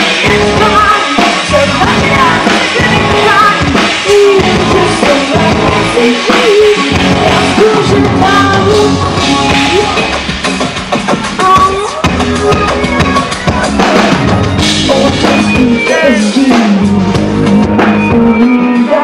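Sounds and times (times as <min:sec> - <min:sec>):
woman singing: 0:00.0 - 0:10.2, 0:11.4 - 0:13.3, 0:14.8 - 0:19.0
live pop-rock band: 0:00.0 - 0:19.0.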